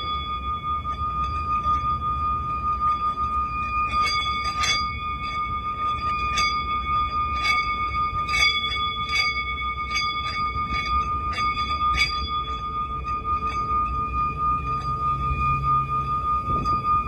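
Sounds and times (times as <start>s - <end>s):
steady high tone: 0.0s - 17.0s.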